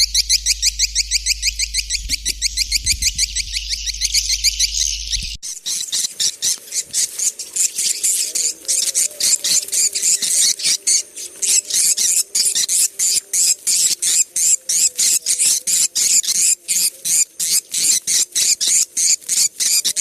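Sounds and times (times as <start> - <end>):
sharp noisy bird chirping: 0.0 - 20.0.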